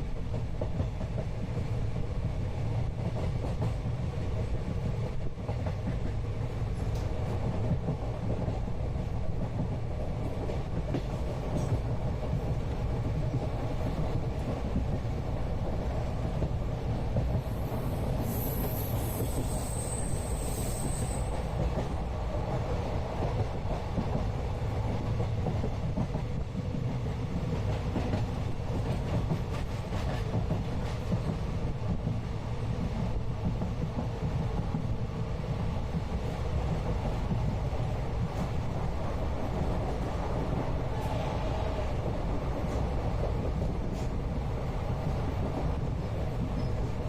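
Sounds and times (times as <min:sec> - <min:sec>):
train rumbling and rattling: 0:00.0 - 0:47.0.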